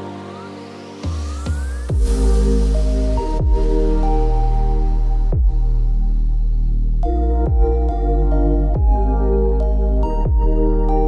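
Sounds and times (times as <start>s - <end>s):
synth chords: 0.0s - 11.0s
deep steady bass: 1.7s - 11.0s.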